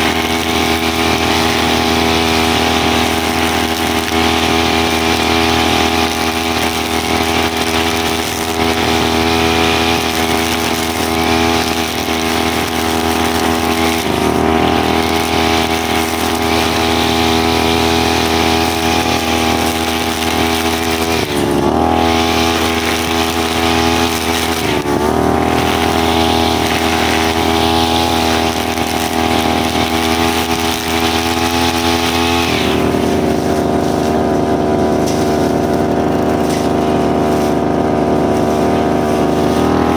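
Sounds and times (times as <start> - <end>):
brushcutter engine running: 0.0 - 39.9.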